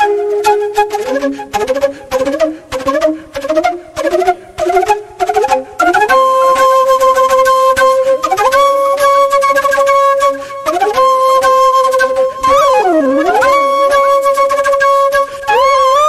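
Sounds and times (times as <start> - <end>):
flute with sliding notes: 0.0 - 16.0
instrumental background music: 0.0 - 16.0.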